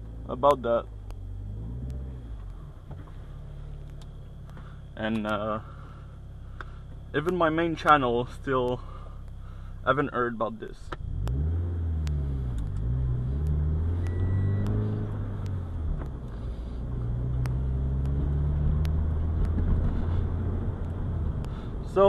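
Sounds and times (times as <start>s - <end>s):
car engine accelerating: 0.0s - 9.9s, 10.9s - 22.0s.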